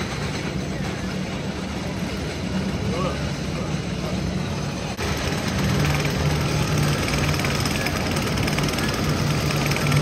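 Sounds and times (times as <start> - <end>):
roller coaster climbing track: 0.0 - 10.0.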